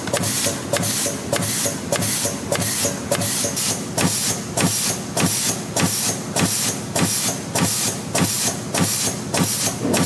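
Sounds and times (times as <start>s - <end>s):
machine clicks and hiss: 0.0s - 10.0s.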